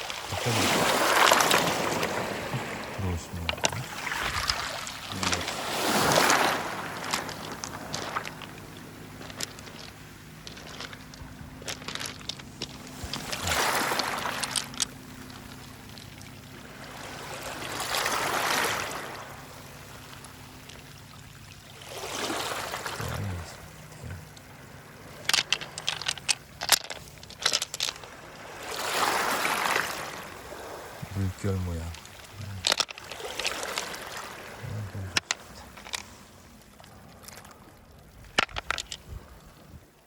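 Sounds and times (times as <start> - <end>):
waves washing on a pebble shore: 0.0 - 40.0.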